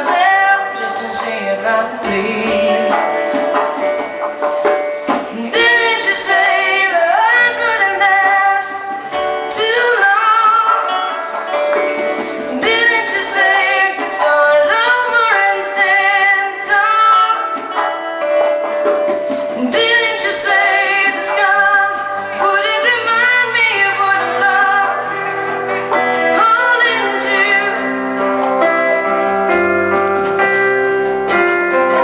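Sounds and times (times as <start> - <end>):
woman singing: 0.0 - 3.8, 5.1 - 18.1, 19.2 - 29.7
keyboard playing: 0.0 - 32.0.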